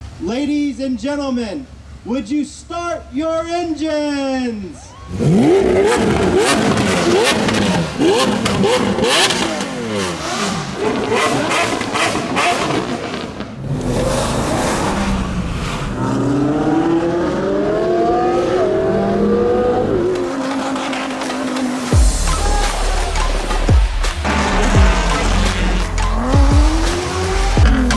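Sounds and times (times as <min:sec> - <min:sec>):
exhaust crackles: 0:00.0 - 0:27.9
car engines revving: 0:01.6 - 0:03.2, 0:03.8 - 0:27.9
car accelerating through upshifts: 0:05.1 - 0:27.9.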